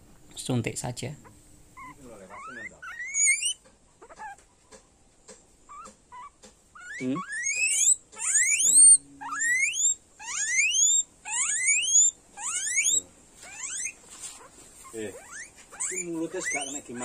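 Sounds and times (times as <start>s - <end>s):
guinea pig squealing: 1.1s - 4.5s, 5.6s - 17.0s.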